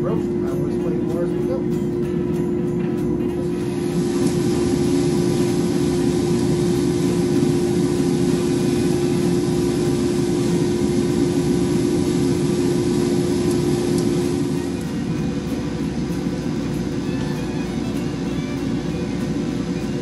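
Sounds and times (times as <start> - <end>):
coffee roaster whirring hum: 0.0 - 20.0.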